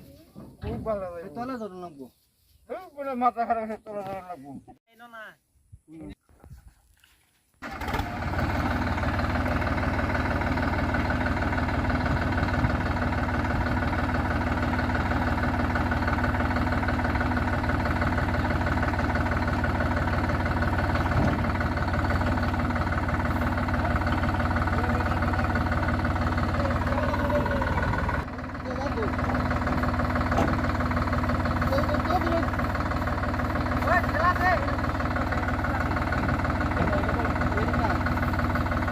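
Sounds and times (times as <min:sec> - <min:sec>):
tractor diesel engine running: 0:07.6 - 0:38.9.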